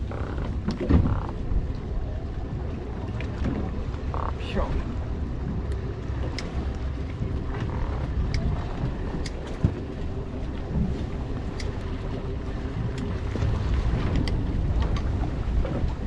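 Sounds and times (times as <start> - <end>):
boat engine rumble: 0.0 - 16.0
wind on microphone: 0.0 - 16.0.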